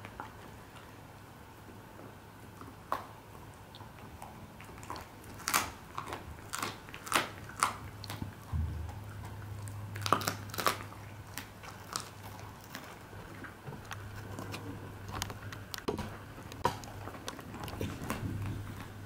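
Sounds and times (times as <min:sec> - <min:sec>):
dog crunching bones: 0:01.6 - 0:19.0.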